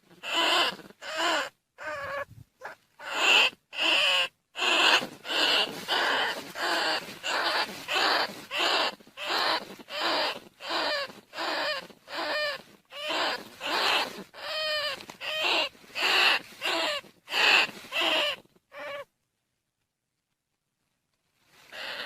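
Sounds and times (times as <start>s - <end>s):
squeaky rat squeals: 0.1s - 19.1s, 21.7s - 22.0s.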